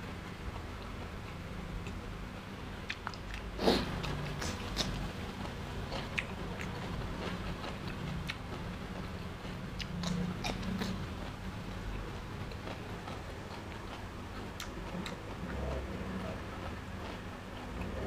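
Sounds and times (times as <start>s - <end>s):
person chewing food: 2.8s - 18.0s.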